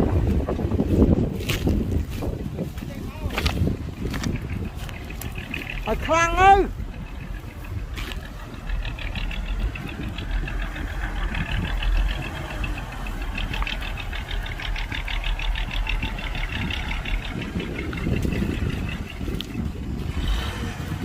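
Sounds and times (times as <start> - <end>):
diesel engine rumbling: 0.0 - 21.0
fast even clatter: 3.3 - 21.0.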